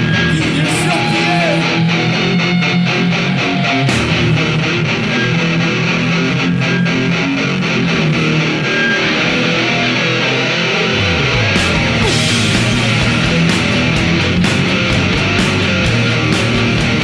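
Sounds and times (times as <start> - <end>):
live band playing: 0.0 - 17.0
strummed electric guitars: 0.0 - 17.0.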